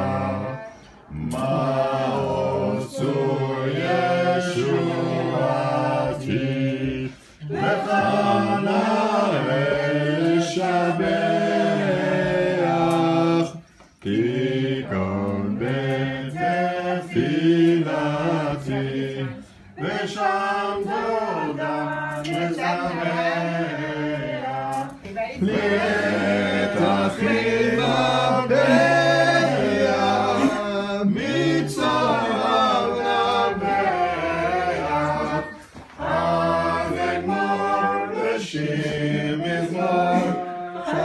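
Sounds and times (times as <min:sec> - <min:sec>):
group singing unaccompanied: 0:00.0 - 0:41.0.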